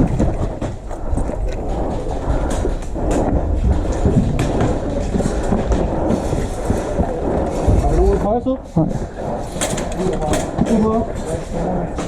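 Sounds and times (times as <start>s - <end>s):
low rumbling handling noise: 0.0s - 12.0s.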